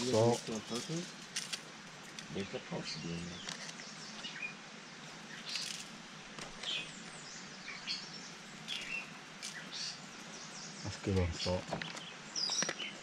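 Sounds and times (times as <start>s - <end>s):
birds chirping: 0.0s - 13.0s
soft outdoor hiss: 0.0s - 13.0s.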